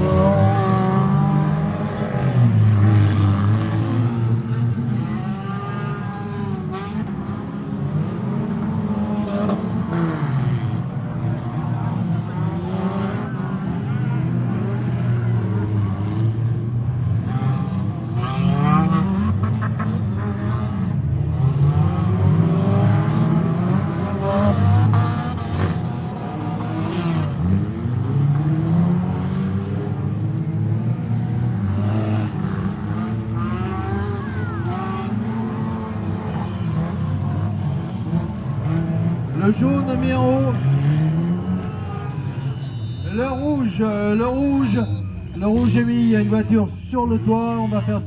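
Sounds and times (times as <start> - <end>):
race car engines revving: 0.0 - 48.0.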